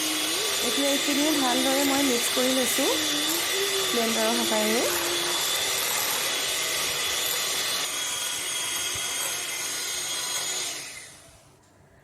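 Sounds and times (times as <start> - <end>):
electric blender running: 0.0 - 11.3.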